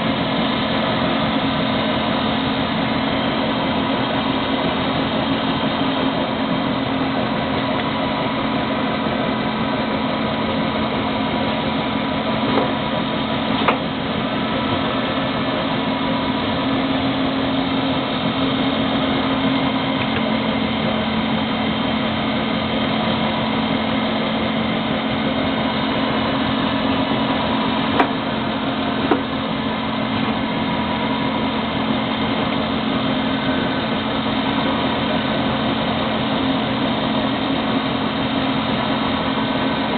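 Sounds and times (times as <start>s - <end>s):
drilling machine humming: 0.0s - 39.9s.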